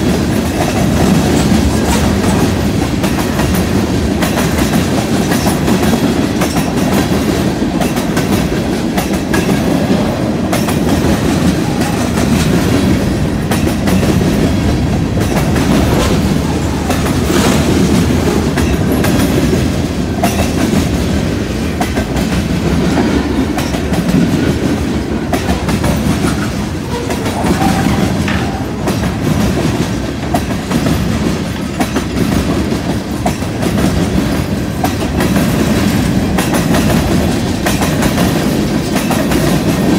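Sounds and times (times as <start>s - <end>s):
steel wheels rumbling on rail: 0.0s - 39.9s
wheels clacking over rail joints: 0.0s - 39.9s.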